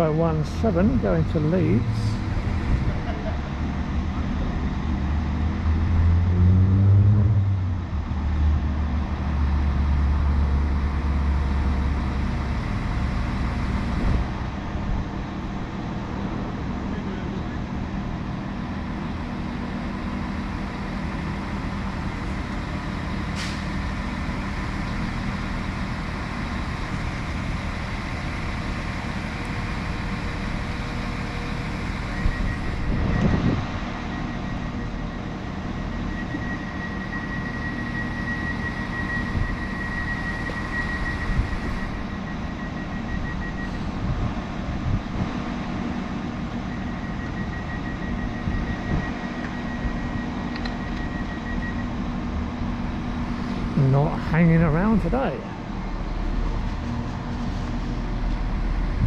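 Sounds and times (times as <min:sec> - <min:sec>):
train engine humming: 0:00.0 - 0:59.0.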